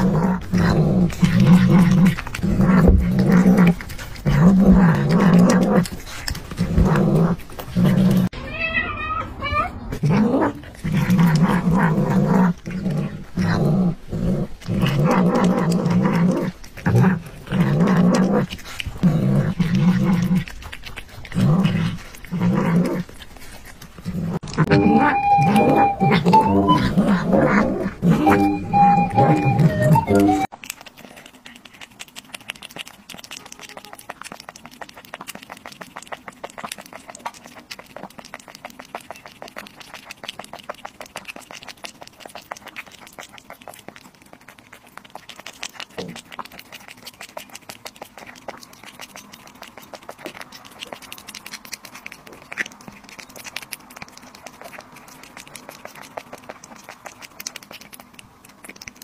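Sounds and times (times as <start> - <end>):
kitten lapping: 0.0 - 8.3, 10.0 - 59.0
cats chewing and licking: 0.0 - 59.0.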